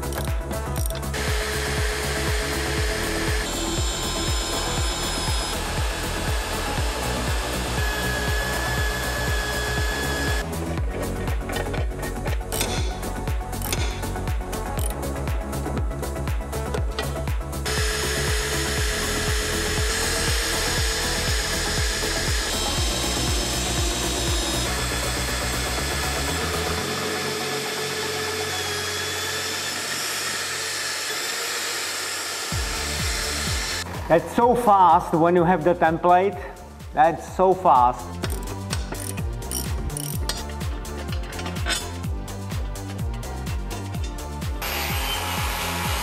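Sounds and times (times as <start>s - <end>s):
drill press whining through steel: 0.0s - 14.1s, 16.6s - 34.0s, 38.2s - 46.0s
background music with beat: 0.0s - 29.2s, 32.6s - 46.0s.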